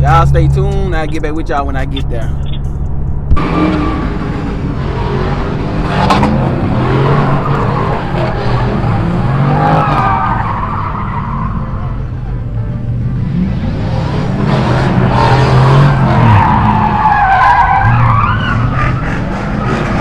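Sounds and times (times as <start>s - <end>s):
car engine revving: 0.0s - 20.0s
car tires squealing: 3.4s - 20.0s.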